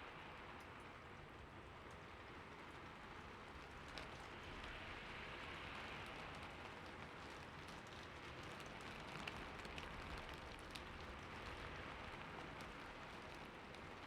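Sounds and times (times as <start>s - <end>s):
quiet rain falling: 0.0s - 14.0s.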